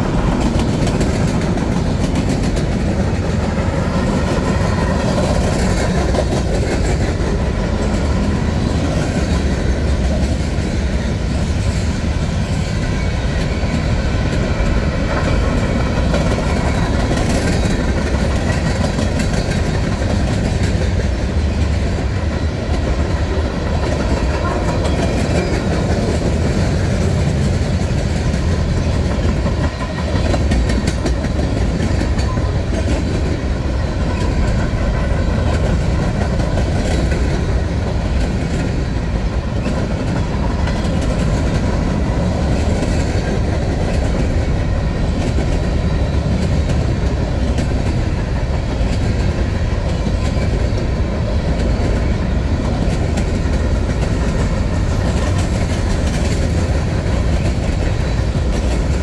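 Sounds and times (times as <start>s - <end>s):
wheels clicking on rails: 0.0s - 59.0s.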